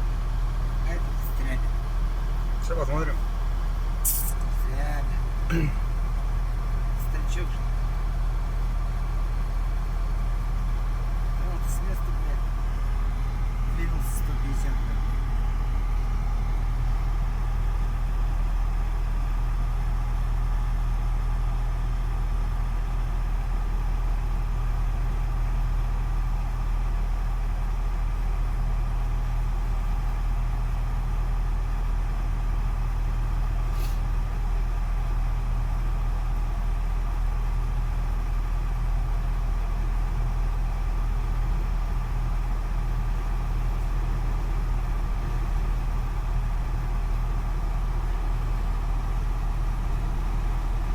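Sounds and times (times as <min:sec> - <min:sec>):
truck crane engine droning: 0:00.0 - 0:50.9.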